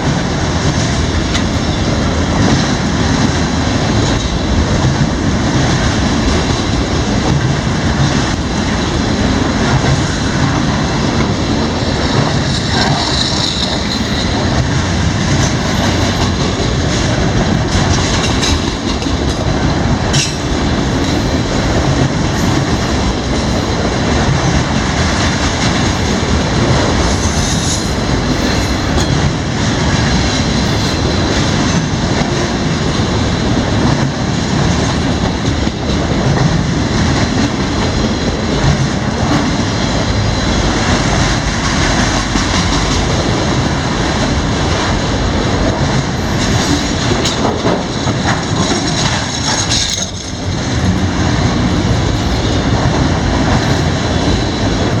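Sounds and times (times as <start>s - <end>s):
train wheels rumbling on rail: 0.0s - 55.0s
wheels clicking over rail joints: 0.6s - 55.0s.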